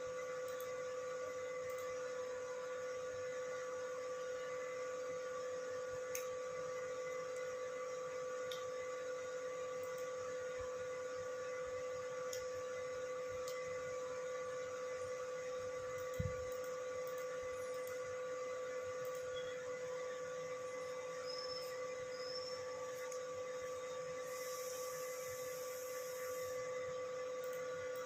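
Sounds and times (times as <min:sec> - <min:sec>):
steady electrical hum: 0:00.0 - 0:28.0.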